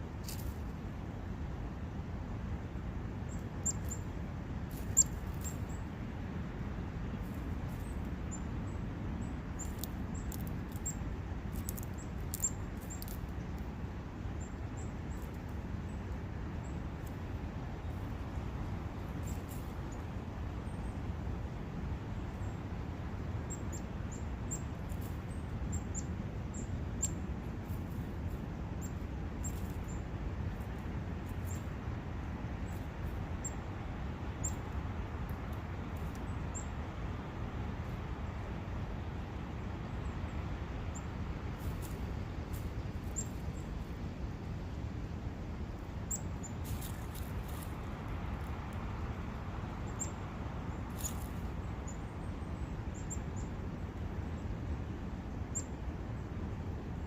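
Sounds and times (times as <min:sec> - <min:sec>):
small birds chirping: 0:00.2 - 0:00.9, 0:03.2 - 0:54.6, 0:55.2 - 0:57.0.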